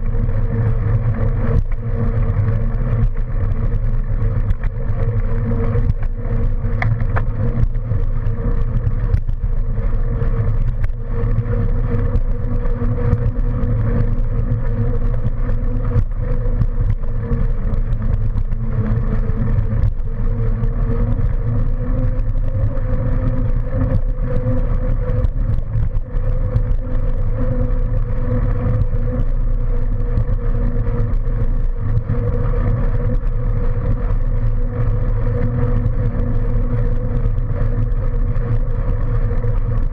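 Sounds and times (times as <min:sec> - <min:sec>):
small rattles and clicks: 0:00.0 - 0:39.9
steady hum: 0:00.0 - 0:39.9
wheels rolling over pavement: 0:00.0 - 0:39.9.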